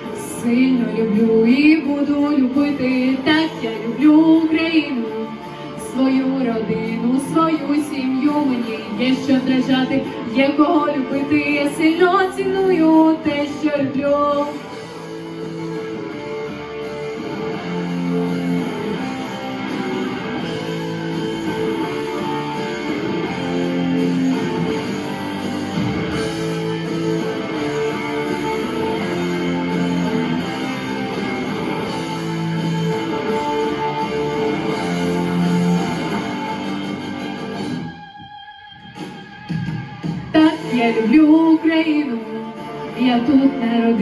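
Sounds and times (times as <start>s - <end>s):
guitar playing sustained chords: 0.0s - 38.9s.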